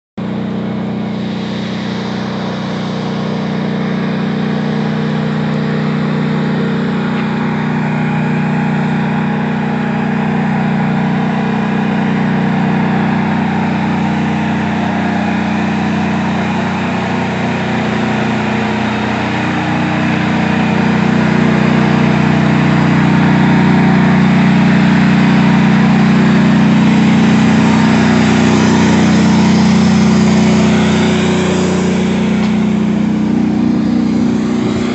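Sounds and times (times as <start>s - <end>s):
tank engine droning: 0.2s - 34.9s.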